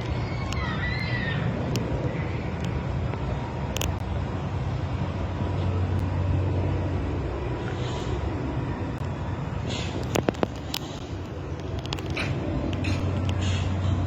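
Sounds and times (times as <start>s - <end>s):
heavy machinery engine rumble: 0.0s - 14.0s.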